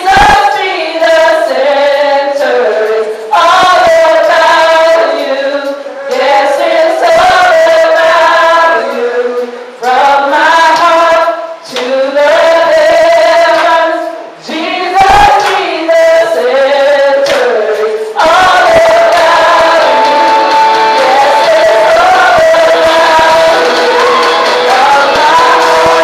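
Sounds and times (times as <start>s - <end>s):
voices singing along: 0.0s - 26.0s
woman singing into a microphone: 0.0s - 26.0s.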